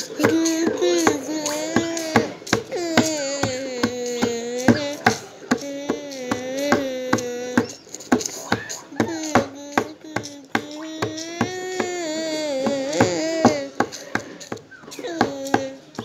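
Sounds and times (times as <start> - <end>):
child singing wordless notes: 0.0 - 16.0
sharp tapping beat: 0.0 - 16.0.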